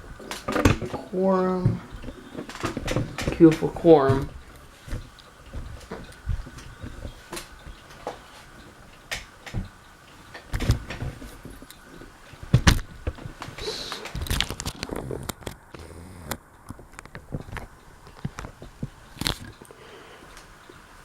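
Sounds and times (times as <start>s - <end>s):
clicks and knocks of handling: 0.0s - 20.9s.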